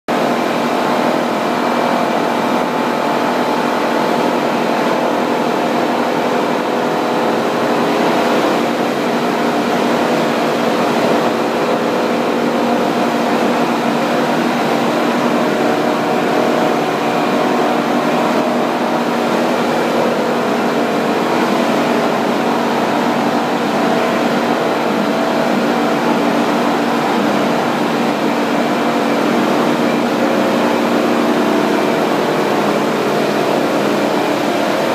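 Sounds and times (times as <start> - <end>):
machinery droning: 0.2 - 34.9.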